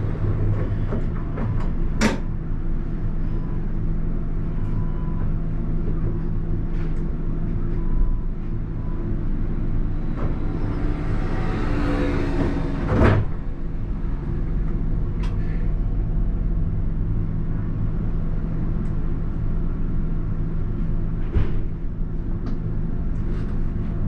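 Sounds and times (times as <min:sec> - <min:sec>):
tram drive humming: 0:00.0 - 0:24.0.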